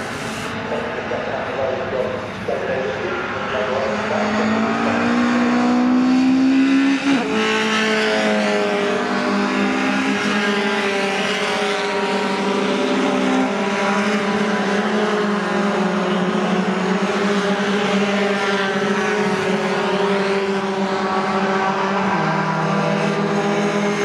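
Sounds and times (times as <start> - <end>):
racing truck engines passing: 0.0 - 24.0.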